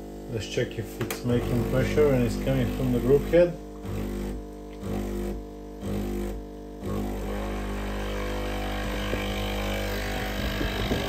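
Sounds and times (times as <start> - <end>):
espresso machine pump humming: 0.0 - 11.0.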